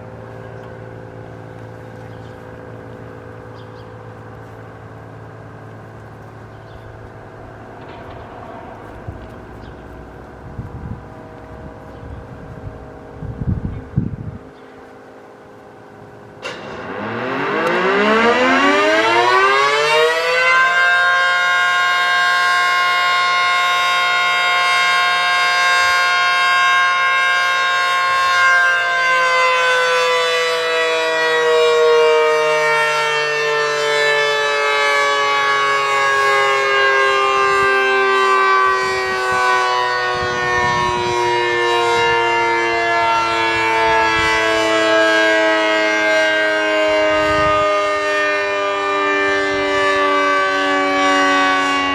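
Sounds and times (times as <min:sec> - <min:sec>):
electromechanical siren wailing: 0:00.0 - 0:51.9.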